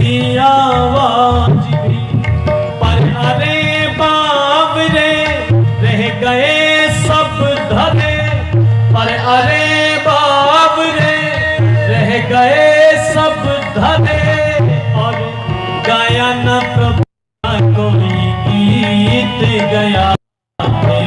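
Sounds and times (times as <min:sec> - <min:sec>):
song with tabla: 0:00.0 - 0:21.0.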